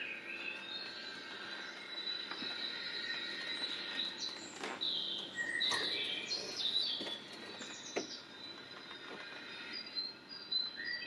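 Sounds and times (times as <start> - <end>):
birds chirping and whistling: 0.0 - 11.0
outdoor background noise: 0.0 - 11.0.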